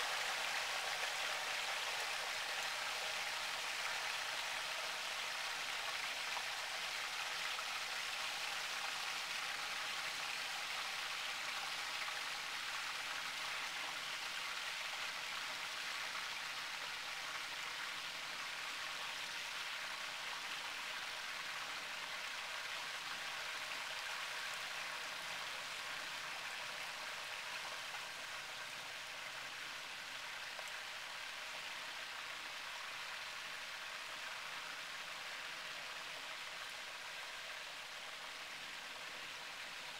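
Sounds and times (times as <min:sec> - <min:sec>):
oil sizzling and bubbling: 0:00.0 - 0:39.9.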